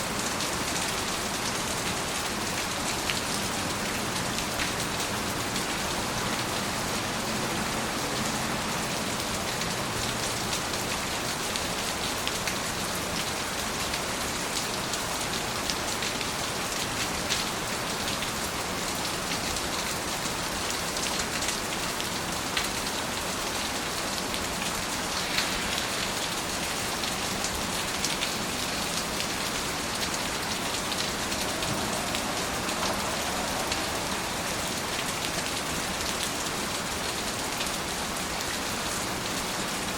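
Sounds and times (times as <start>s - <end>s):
steady rain falling: 0.0s - 39.9s
raindrops ticking on a surface: 0.2s - 39.9s.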